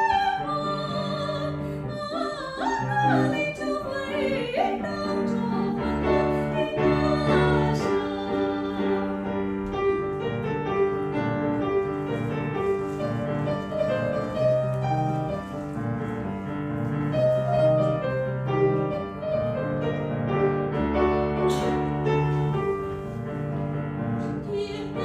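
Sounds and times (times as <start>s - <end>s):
piano playing: 0.0s - 25.0s.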